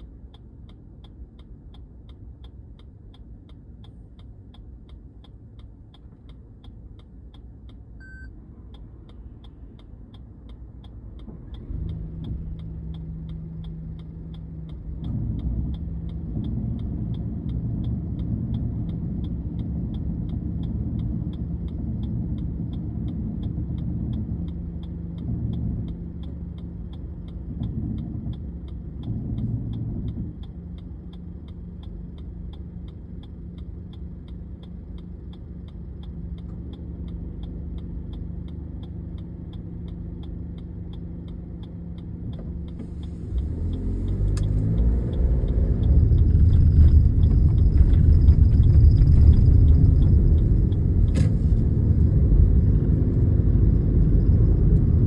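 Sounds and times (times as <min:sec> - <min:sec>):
turn signal ticking: 0:00.0 - 0:55.0
passing traffic rumbling: 0:08.4 - 0:55.0.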